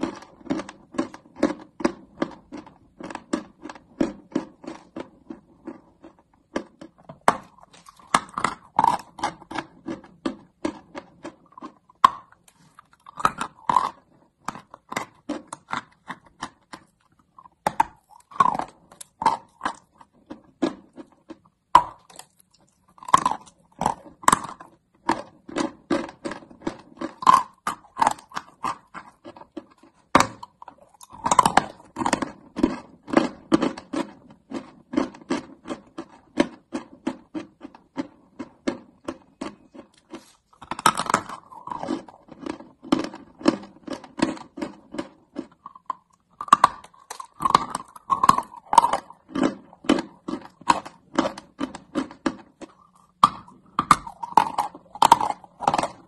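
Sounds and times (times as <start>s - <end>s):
person chewing crunchy chalk: 0.0s - 56.0s.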